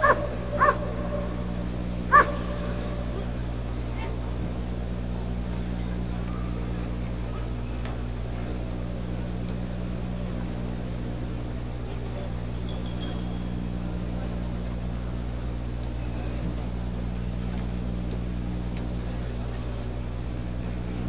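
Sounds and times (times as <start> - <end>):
low electrical hum with hiss: 0.0 - 21.0.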